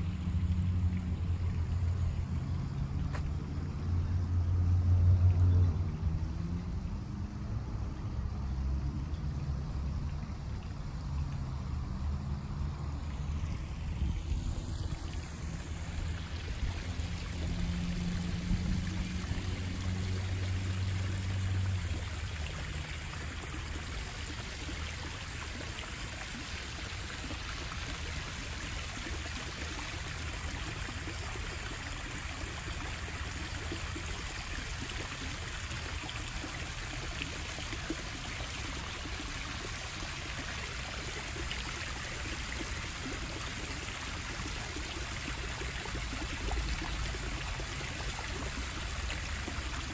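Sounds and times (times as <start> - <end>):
waterfall splashing into pond: 0.0 - 49.9.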